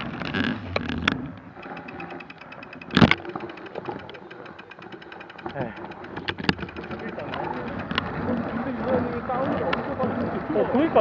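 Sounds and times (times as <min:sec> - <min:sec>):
rear hub ticking: 0:00.0 - 0:09.4
bike rolling rumble and rattle: 0:00.0 - 0:11.0.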